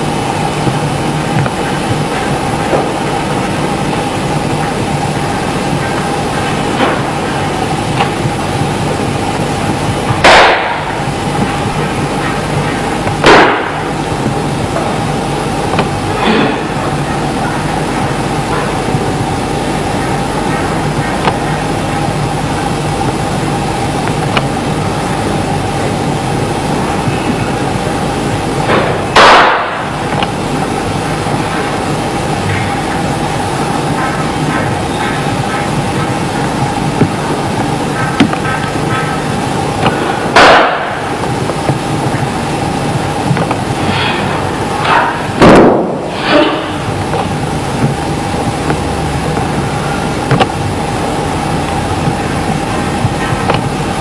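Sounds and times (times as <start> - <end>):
steady background noise: 0.0 - 54.0
steady background rumble: 0.0 - 54.0.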